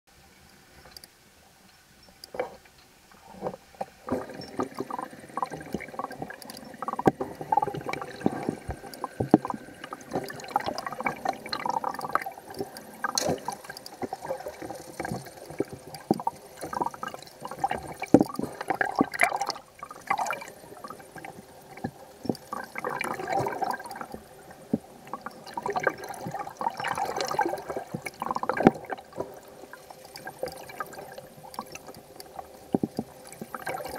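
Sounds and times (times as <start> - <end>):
water gurgling underwater: 4.0 - 33.9.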